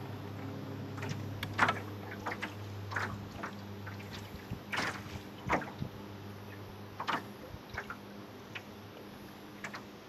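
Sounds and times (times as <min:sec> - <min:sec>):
steady low hum: 0:00.0 - 0:10.0
waves slapping against hull: 0:00.0 - 0:10.0.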